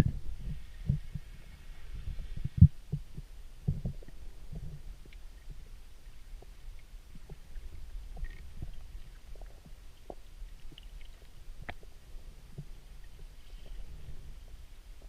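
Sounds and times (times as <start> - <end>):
faint underwater clicks: 0.0 - 15.0
underwater rumble: 0.0 - 15.0.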